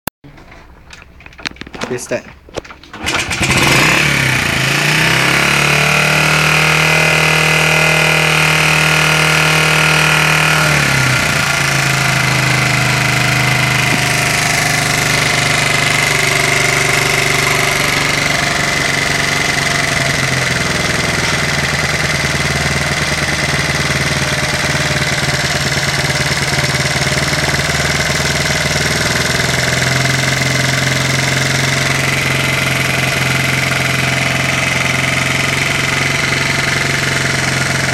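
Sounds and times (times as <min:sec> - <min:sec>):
motorcycle engine running: 0:03.0 - 0:37.9.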